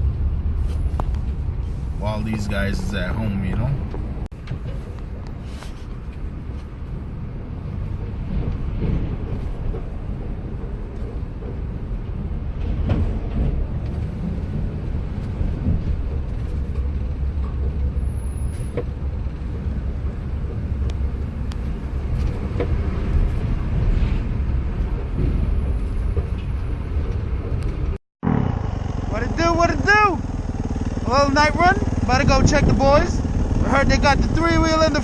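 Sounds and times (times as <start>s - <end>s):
engine and road rumble: 0.0s - 35.0s.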